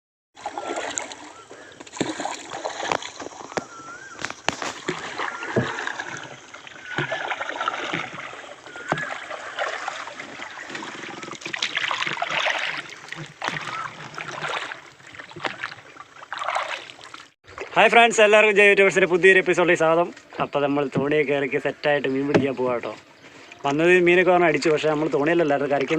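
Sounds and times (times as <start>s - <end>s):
water splashing: 0.4s - 20.3s, 20.9s - 25.9s.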